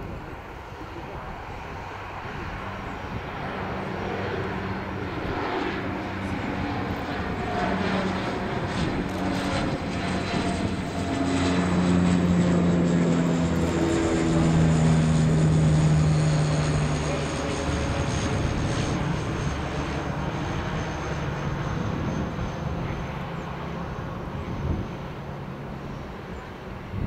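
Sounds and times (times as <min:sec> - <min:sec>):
turboprop plane propeller drone: 0:00.0 - 0:27.0.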